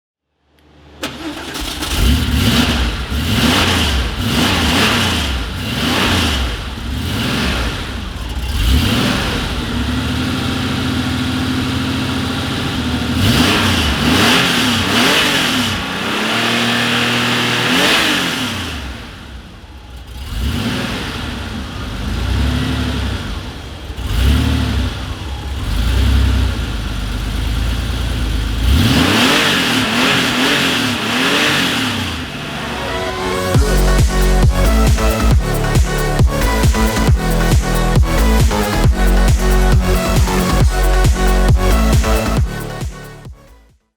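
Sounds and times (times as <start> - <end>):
car engine starting and revving: 0.6 - 43.7.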